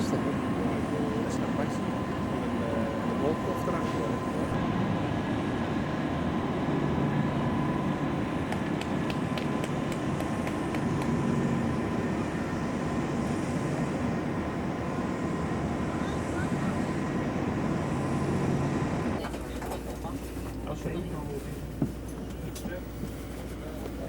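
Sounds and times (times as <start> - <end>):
mechanical rumble and hum: 0.0 - 24.0
thin constant whine: 0.0 - 24.0.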